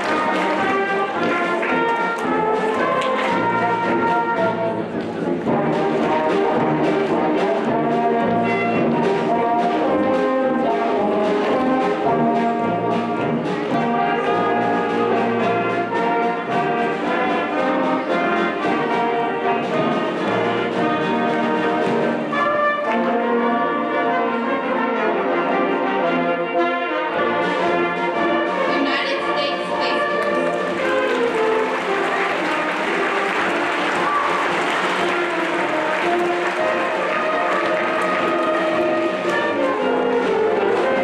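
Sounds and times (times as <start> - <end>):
brass band playing: 0.0 - 41.0.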